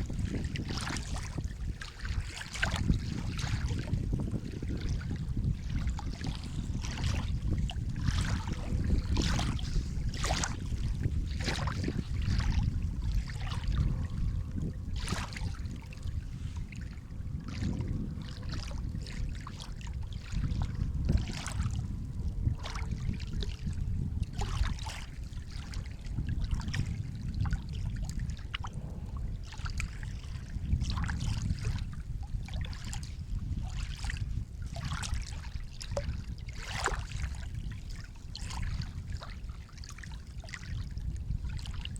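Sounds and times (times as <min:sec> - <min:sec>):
low rumble of surf: 0:00.0 - 0:41.9
sea water lapping and splashing: 0:00.0 - 0:41.9.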